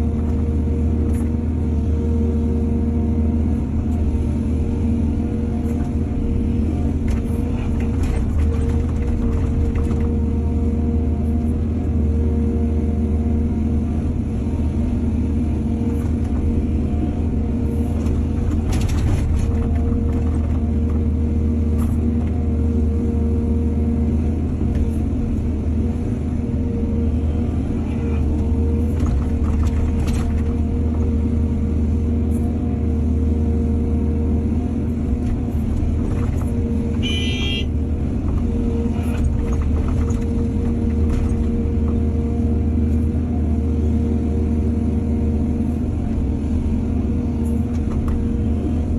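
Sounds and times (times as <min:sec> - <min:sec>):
heavy diesel machinery humming: 0:00.0 - 0:48.9.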